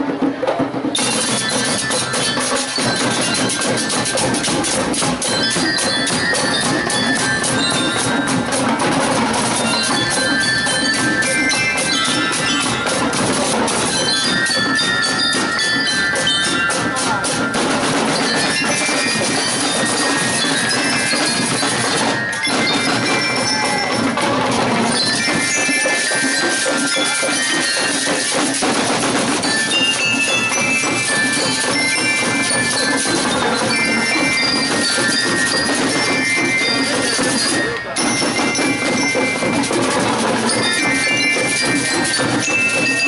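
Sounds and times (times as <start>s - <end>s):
cymbals: 0.0s - 43.0s
snare and bass drums marching beat: 0.0s - 43.0s
bell lyres melody: 0.8s - 43.0s.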